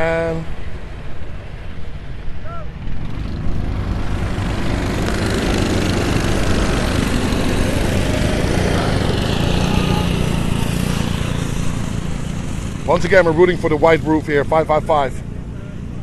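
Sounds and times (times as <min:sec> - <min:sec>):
small race car engines buzzing: 0:02.9 - 0:16.0.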